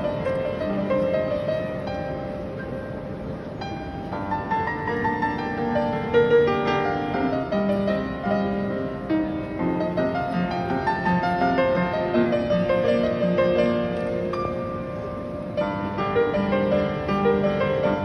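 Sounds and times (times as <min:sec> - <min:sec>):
acoustic piano playing: 0:00.0 - 0:18.0.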